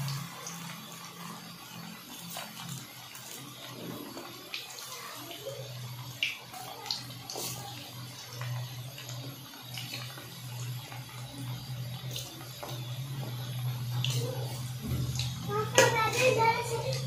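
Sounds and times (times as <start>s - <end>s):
food deep-frying in oil: 0.0s - 17.0s
sharp oil crackles: 0.0s - 17.0s.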